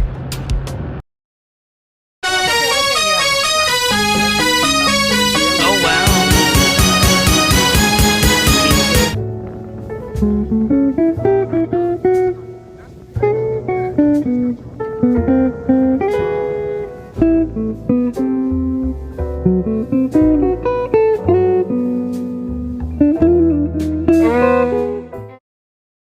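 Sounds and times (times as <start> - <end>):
plucked guitar melody: 2.2 - 25.4
sustained low bass notes: 2.9 - 25.4.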